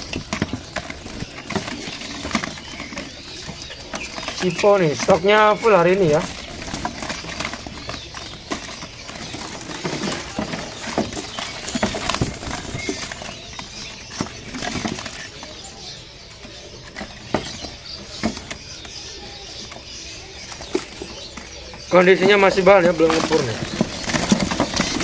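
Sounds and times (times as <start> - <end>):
bird wings flapping: 0.0 - 15.9, 16.5 - 25.0
bird market background: 0.0 - 25.0.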